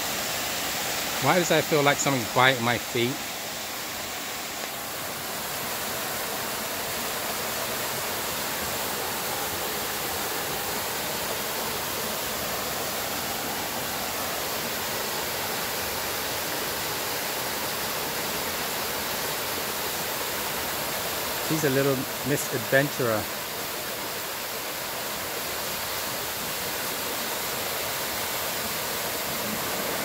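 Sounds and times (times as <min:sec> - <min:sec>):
waterfall splashing into pool: 0:00.0 - 0:23.9, 0:24.6 - 0:30.0.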